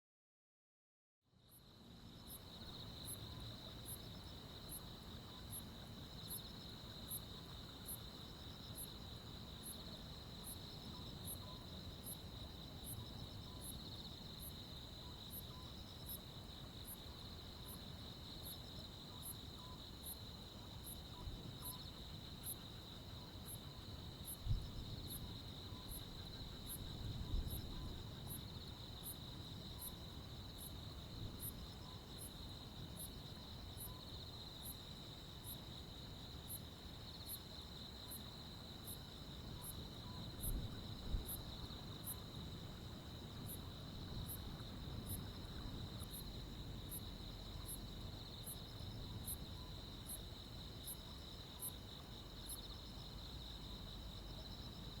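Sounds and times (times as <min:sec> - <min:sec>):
cricket chirps: 0:01.3 - 0:55.0
insects trilling: 0:02.3 - 0:55.0.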